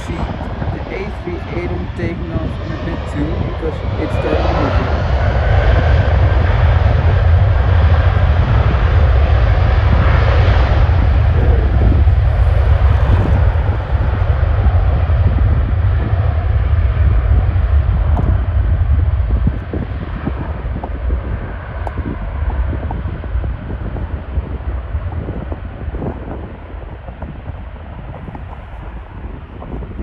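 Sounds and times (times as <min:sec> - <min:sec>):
jet engines at takeoff: 0:00.0 - 0:30.0
wind rumble on microphone: 0:00.0 - 0:30.0.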